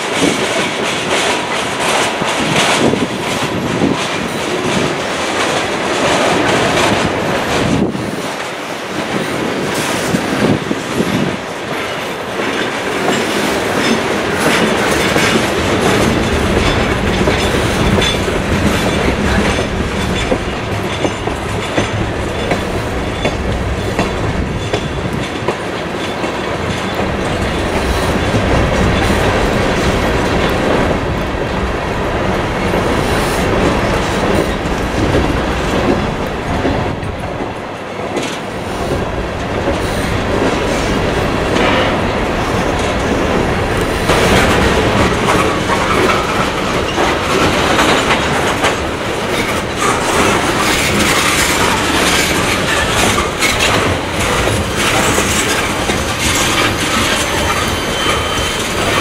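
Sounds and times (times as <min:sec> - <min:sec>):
freight train rolling past: 0:00.0 - 0:59.0
steel wheels on rails: 0:00.0 - 0:59.0.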